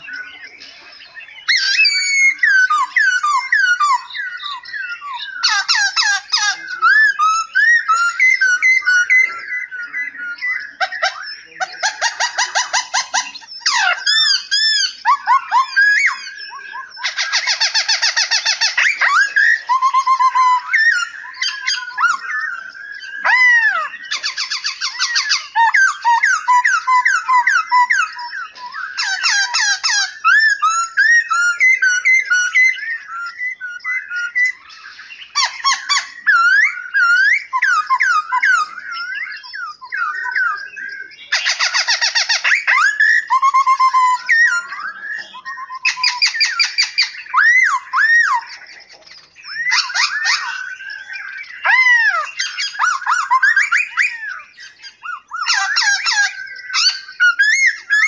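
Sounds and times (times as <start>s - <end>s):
harsh buzzy bird call: 0.0s - 58.0s
songbirds singing and calling: 0.0s - 58.0s.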